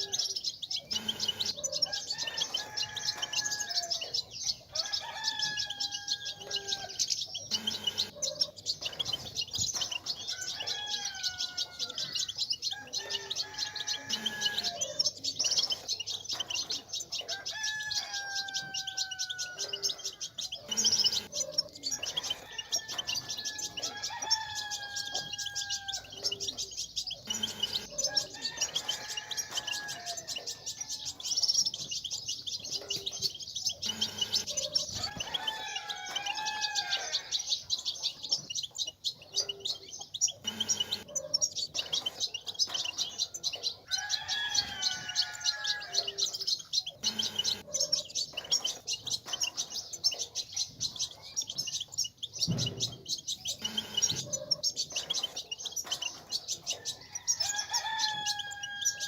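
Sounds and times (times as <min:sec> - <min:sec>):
drawn-out falling bird call: 0:00.0 - 0:37.7, 0:39.5 - 0:49.7, 0:52.4 - 0:56.0
goldfinches twittering: 0:00.0 - 0:59.0.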